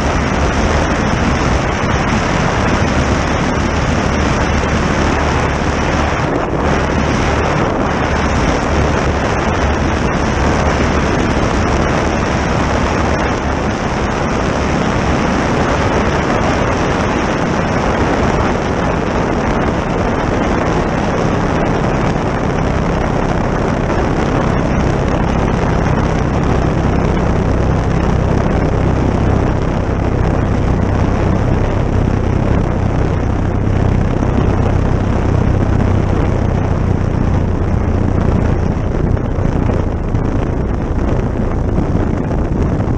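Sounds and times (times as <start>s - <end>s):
aircraft engine and propeller: 0.0s - 42.9s
wind noise on microphone: 0.0s - 42.9s.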